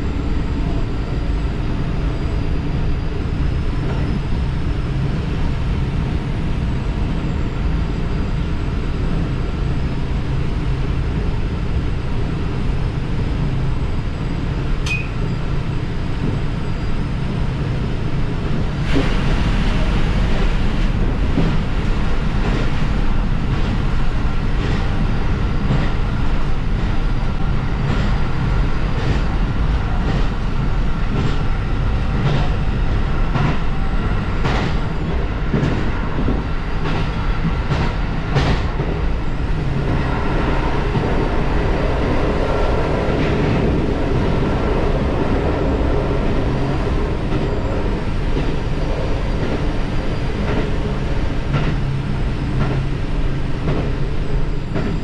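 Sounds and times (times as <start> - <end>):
wheels rumbling on rails: 0.0 - 55.0.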